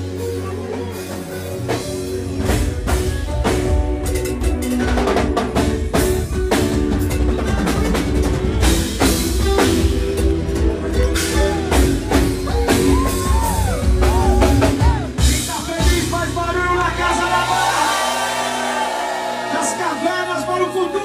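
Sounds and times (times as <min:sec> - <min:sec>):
electric guitar chords: 0:00.0 - 0:19.6
bass guitar: 0:00.0 - 0:21.0
drum kit beats: 0:00.0 - 0:21.0.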